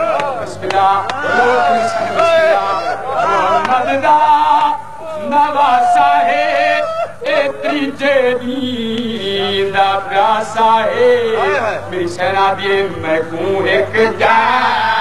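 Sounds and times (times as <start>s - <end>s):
man chanting a lament: 0.0s - 14.8s.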